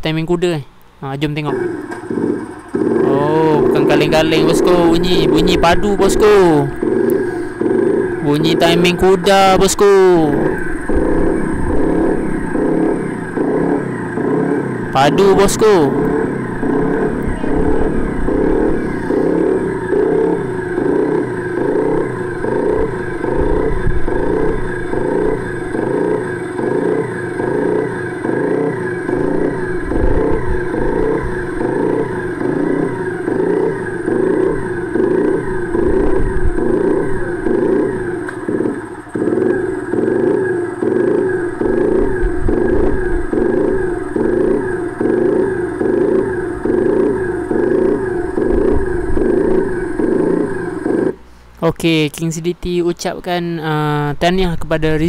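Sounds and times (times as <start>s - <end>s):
motorcycle engine idling with loping beat: 0.9s - 51.6s.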